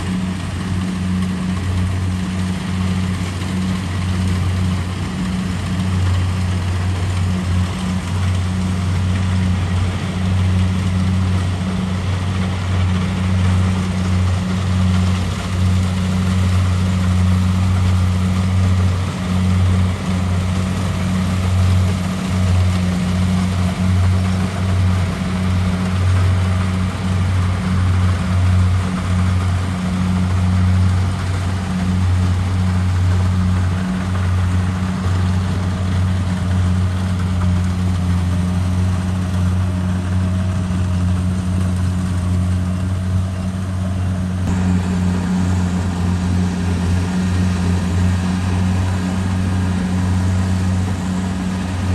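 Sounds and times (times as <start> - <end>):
combine harvester engine hum: 0.0 - 51.9.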